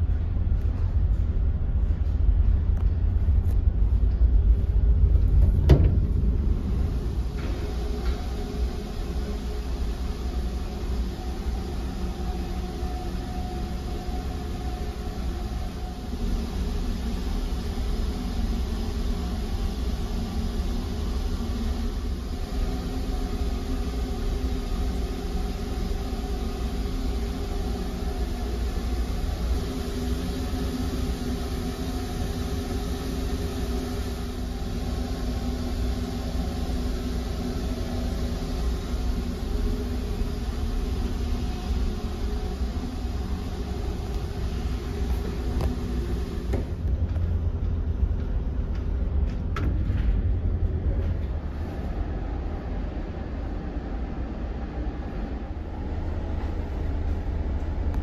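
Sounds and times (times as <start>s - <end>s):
ship engines droning: 0.0s - 58.0s.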